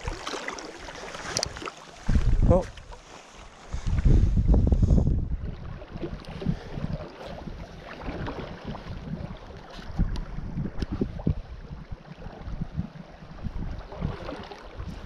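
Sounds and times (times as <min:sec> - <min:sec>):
creek water rushing and splashing: 0:00.0 - 0:04.0, 0:05.3 - 0:15.0
wind buffeting microphone: 0:01.3 - 0:15.0.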